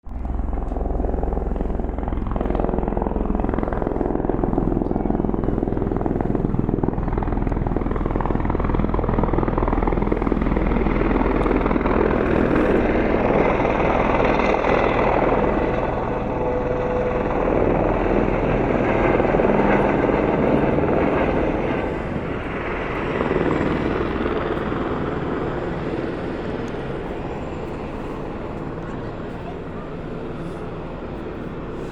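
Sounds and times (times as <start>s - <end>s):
helicopter rotor and engine: 0.0s - 31.9s.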